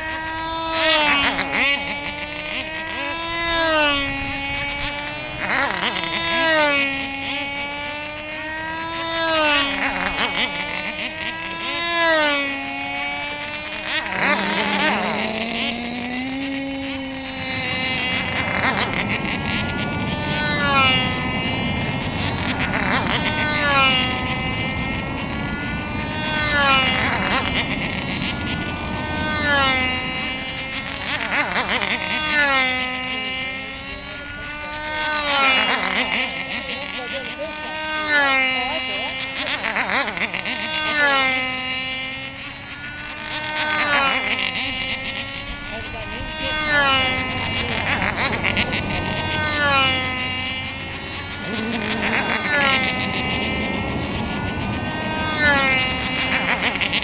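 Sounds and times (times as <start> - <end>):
model aircraft engines screaming: 0.0 - 57.0.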